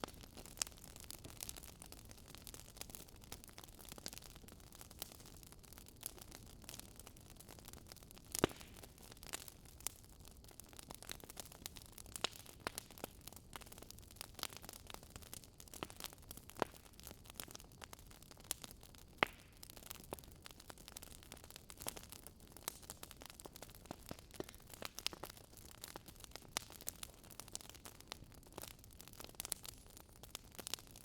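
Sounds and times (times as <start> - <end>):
crackling wood fire: 0.0 - 31.0.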